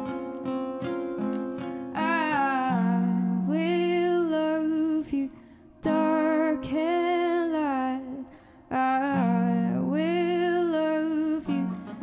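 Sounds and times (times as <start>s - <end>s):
classical guitar: 0.0s - 12.0s
woman singing wordless phrases: 1.9s - 12.0s.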